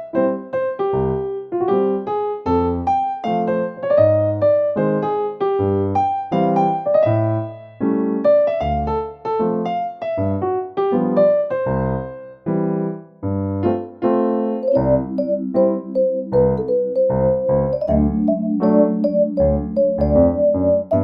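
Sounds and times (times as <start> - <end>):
piano playing run of notes: 0.0 - 21.0.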